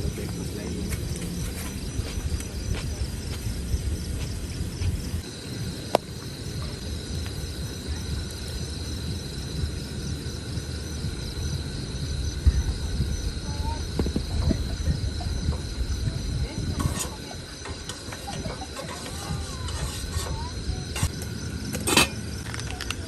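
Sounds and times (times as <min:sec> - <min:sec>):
high insect drone: 0:00.0 - 0:23.0
insects chirping in trills: 0:00.0 - 0:23.0
low rumbling noise: 0:00.0 - 0:23.0.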